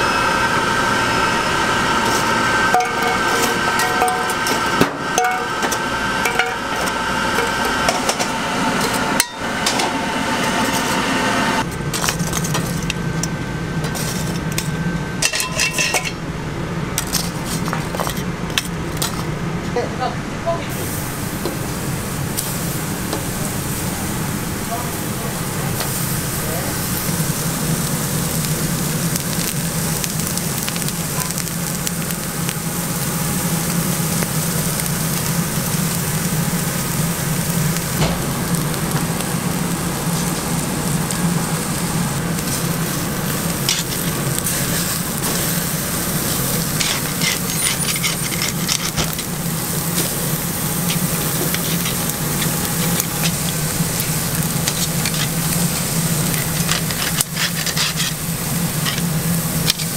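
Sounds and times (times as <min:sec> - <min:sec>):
steaks sizzling on grill: 0:00.0 - 0:14.4, 0:20.7 - 0:59.9.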